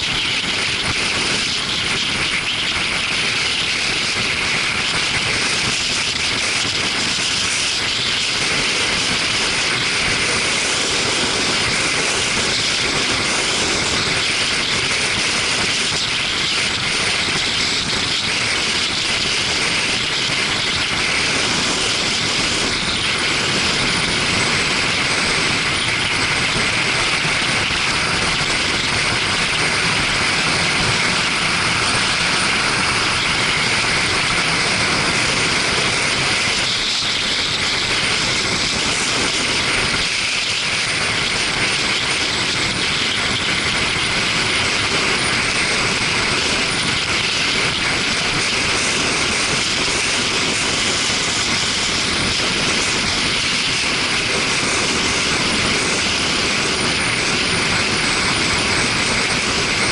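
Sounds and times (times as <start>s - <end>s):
motorcycle engine: 0.0s - 59.9s
road noise: 0.0s - 59.9s
wind rushing on microphone: 0.0s - 59.9s.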